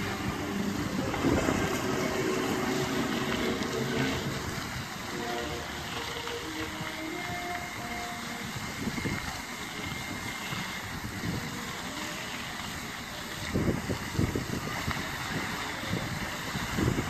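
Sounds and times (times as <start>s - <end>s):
fountain water jets rushing: 0.0s - 17.0s
wind buffeting microphone: 0.0s - 17.0s.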